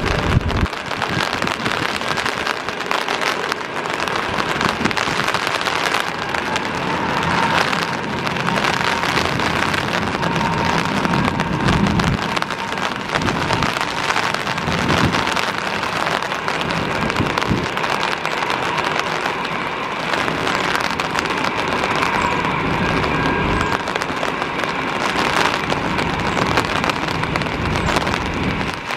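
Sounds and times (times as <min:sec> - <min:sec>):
heavy rain hissing: 0:00.0 - 0:28.9
jet engines at takeoff power: 0:00.0 - 0:28.9.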